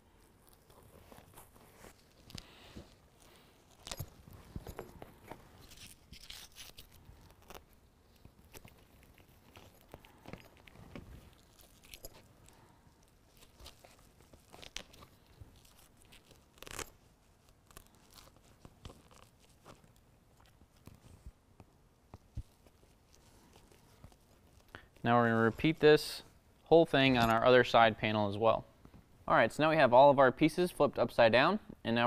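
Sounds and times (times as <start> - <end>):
paper backing peeling and crinkling: 0.1 - 26.0.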